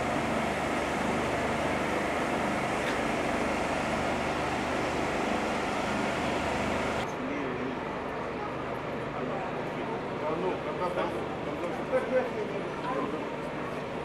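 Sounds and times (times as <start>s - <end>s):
airfield background noise: 0.0s - 14.0s.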